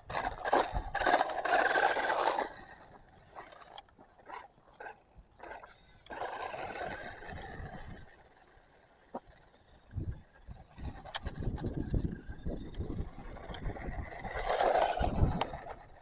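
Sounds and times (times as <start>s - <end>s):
radio-controlled car driving: 0.0s - 16.0s.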